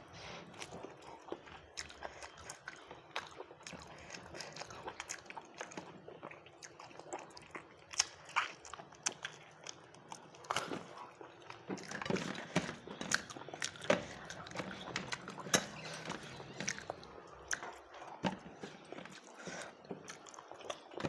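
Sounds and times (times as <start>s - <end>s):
person chewing: 0.1s - 21.0s.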